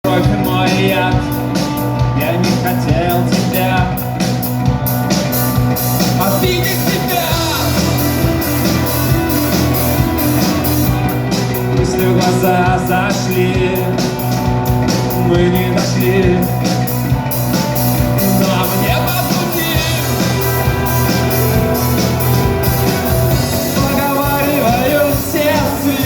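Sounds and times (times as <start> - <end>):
rock guitar and drums: 0.0 - 26.0.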